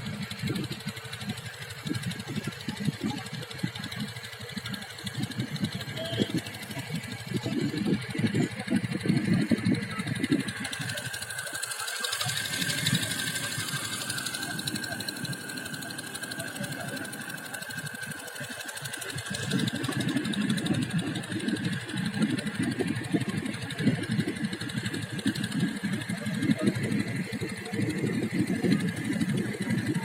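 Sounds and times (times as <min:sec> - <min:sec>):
small boat engine clattering: 0:00.0 - 0:30.0.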